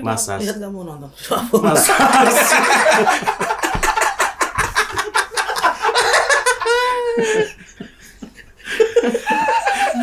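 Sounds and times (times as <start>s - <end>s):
men laughing hard: 1.7s - 10.0s.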